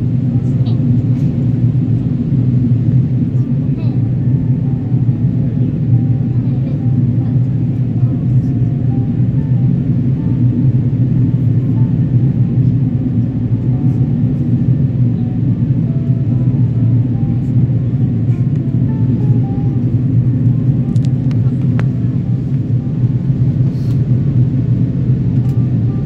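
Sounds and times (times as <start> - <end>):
airplane engines droning: 0.0 - 26.0
rushing airflow: 0.0 - 26.0.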